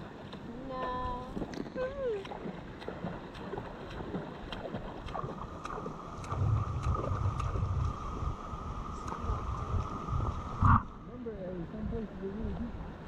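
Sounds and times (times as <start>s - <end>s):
river water lapping: 0.0s - 13.0s
wind rumble on microphone: 0.0s - 13.0s.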